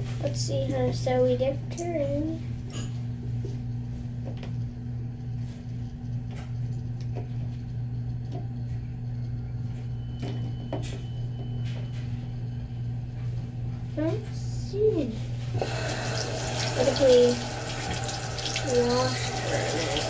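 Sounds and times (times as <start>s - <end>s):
low hum: 1.6s - 19.9s.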